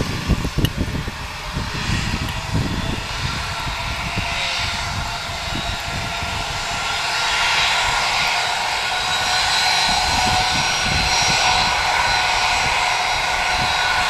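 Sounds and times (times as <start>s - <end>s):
jet engines whining: 0.0s - 14.0s
wind buffeting microphone: 0.0s - 14.0s.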